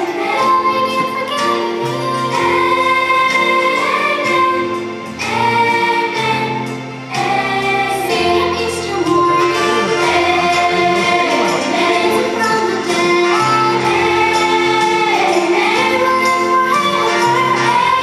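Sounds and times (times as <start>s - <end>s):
instrumental backing with bass: 0.1s - 18.0s
choir singing: 1.9s - 18.0s.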